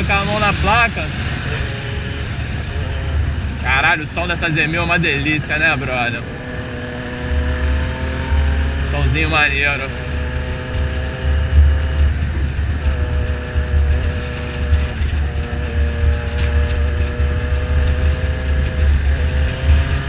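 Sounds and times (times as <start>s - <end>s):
motorcycle engine cruising: 0.0s - 20.0s
wind buffeting microphone: 0.0s - 20.0s.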